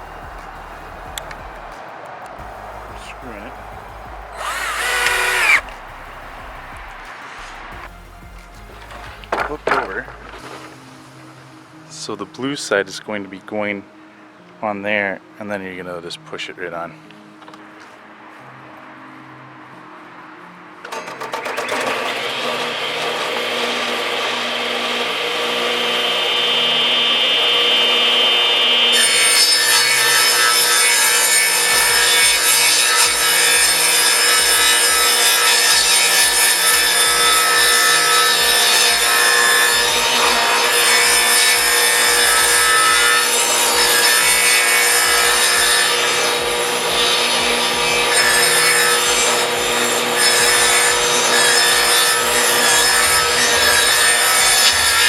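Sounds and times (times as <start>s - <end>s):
chainsaw cutting wood: 0.0s - 10.8s, 20.8s - 55.0s.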